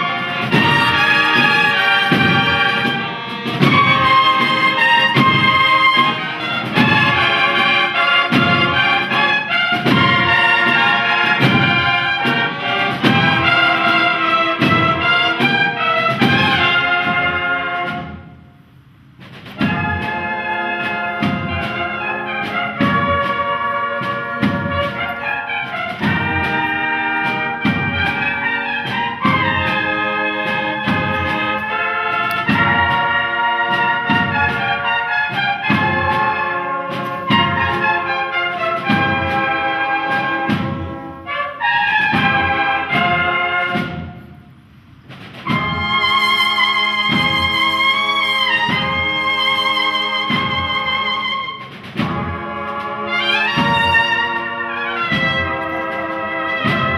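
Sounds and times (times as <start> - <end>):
cornet and drum band march: 0.0 - 56.9.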